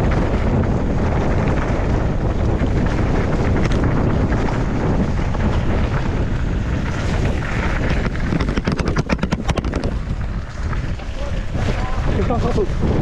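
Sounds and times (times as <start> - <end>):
mountain bike rumble: 0.0 - 13.0
wind on microphone: 0.0 - 13.0.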